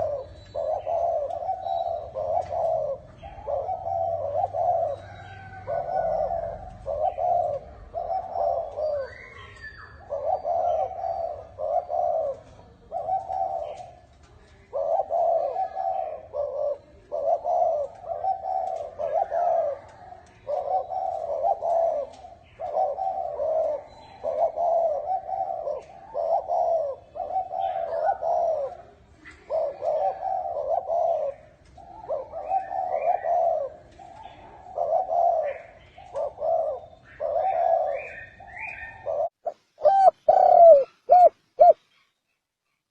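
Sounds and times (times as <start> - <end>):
dove cooing: 0.0 - 42.0.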